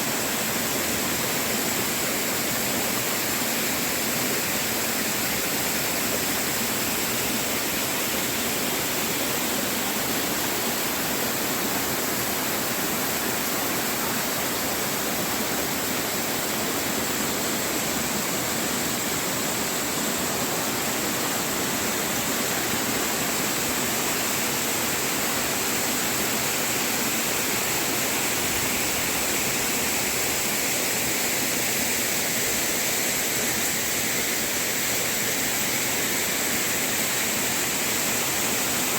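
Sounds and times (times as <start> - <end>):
waterfall pouring over rocks: 0.0 - 38.9.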